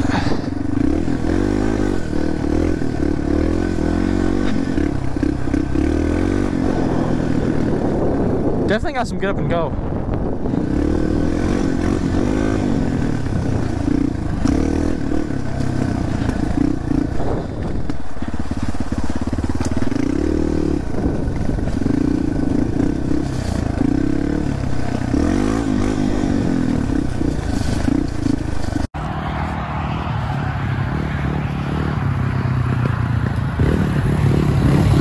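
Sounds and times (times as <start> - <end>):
dirt bike engine revving: 0.0 - 8.7, 10.0 - 35.0.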